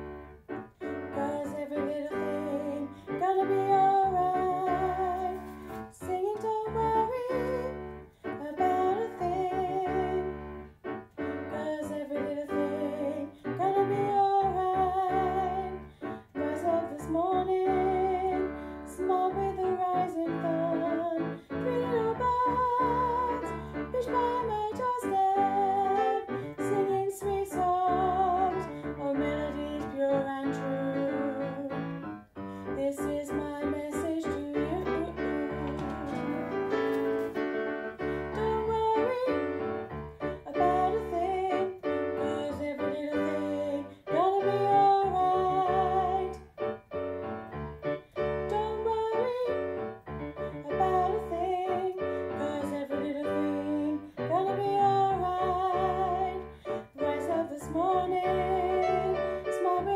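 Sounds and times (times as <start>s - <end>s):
piano accompaniment: 0.0s - 59.9s
woman singing with vibrato: 0.9s - 10.5s, 11.5s - 31.8s, 32.7s - 46.4s, 48.4s - 49.6s, 50.4s - 59.9s.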